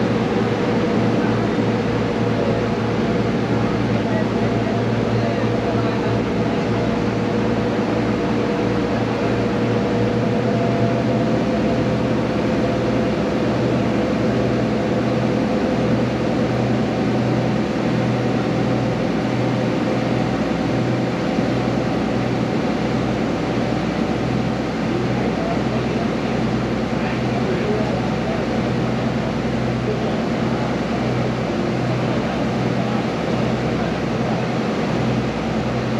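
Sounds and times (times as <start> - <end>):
ferry engine drone: 0.0 - 35.9.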